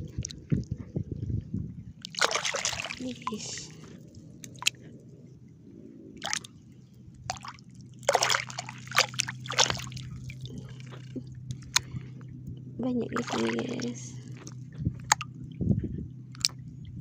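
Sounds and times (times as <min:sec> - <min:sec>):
shallow water splashing: 0:02.0 - 0:15.6, 0:16.2 - 0:16.7.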